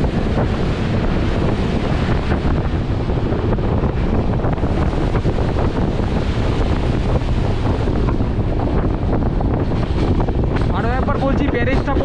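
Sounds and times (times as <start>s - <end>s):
train crossing bridge: 0.0s - 12.0s
wind on microphone: 0.0s - 12.0s.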